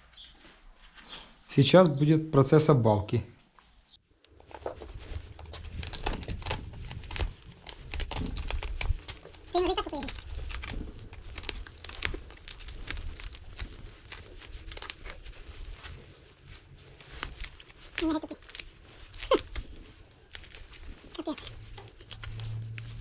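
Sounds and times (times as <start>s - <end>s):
rapid crinkling and crackling: 4.0s - 23.0s.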